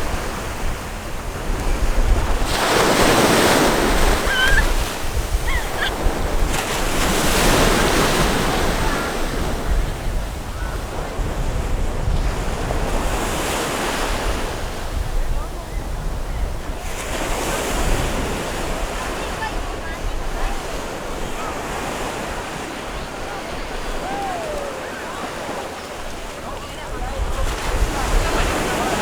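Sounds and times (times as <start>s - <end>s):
ocean surf breaking: 0.0s - 15.0s, 17.0s - 29.0s
wind on microphone: 0.0s - 21.5s, 22.2s - 29.0s.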